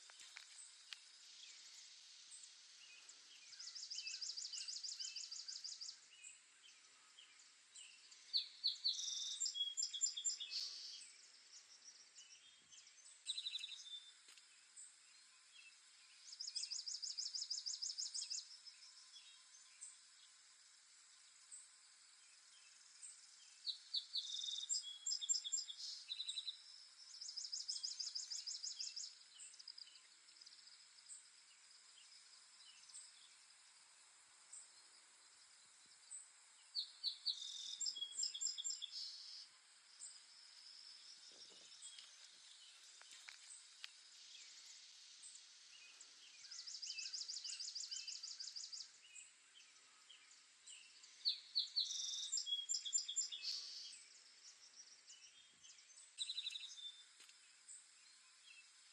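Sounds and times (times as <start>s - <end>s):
faint background hiss: 0.0s - 58.9s
songbirds trilling and chirping: 0.0s - 58.9s.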